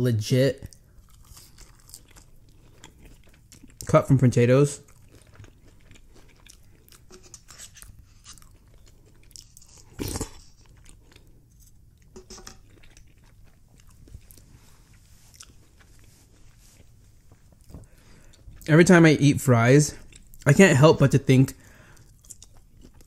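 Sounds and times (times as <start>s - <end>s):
person chewing food: 0.6s - 3.9s, 4.8s - 18.7s, 19.9s - 20.5s, 21.6s - 23.0s.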